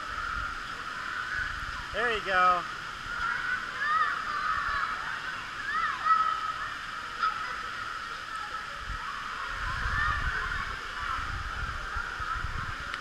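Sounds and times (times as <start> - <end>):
children's voices and squeals: 0.0 - 2.0, 2.7 - 13.0.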